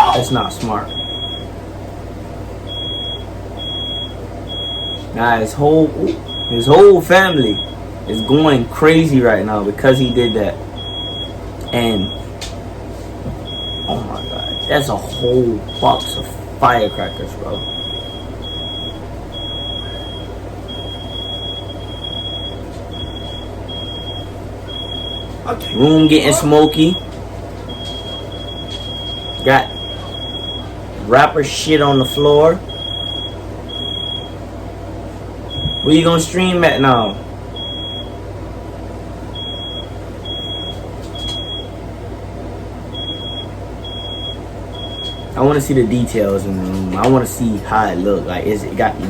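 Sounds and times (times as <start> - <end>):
smoke alarm beeping: 0.0 - 12.4, 13.4 - 34.5, 35.4 - 38.4, 39.2 - 41.9, 42.9 - 46.3
low background rumble: 0.0 - 49.0
steady background hum: 0.0 - 49.0.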